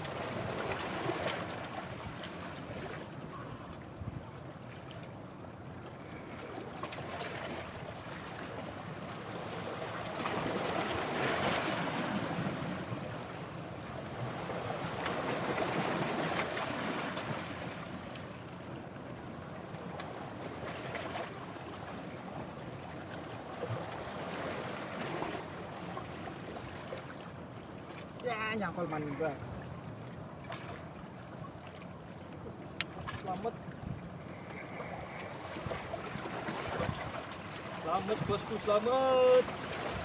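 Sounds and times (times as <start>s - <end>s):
sea surf washing on shore: 0.0s - 4.4s, 6.1s - 32.0s, 32.7s - 40.0s.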